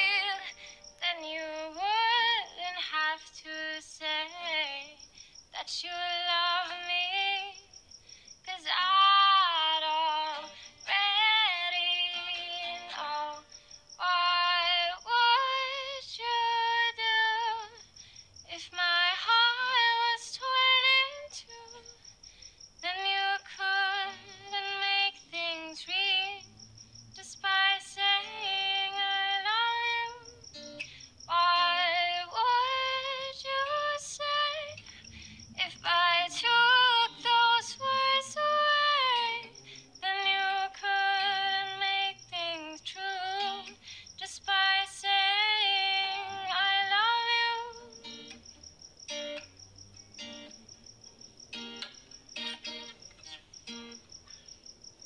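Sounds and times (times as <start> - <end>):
young woman singing: 0.0 - 7.8, 8.4 - 22.0, 22.8 - 26.5, 27.2 - 48.4.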